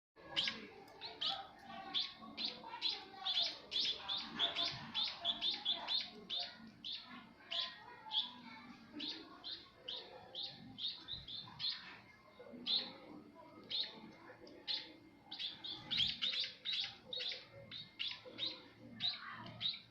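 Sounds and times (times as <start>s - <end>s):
munia chirping: 0.2s - 19.9s.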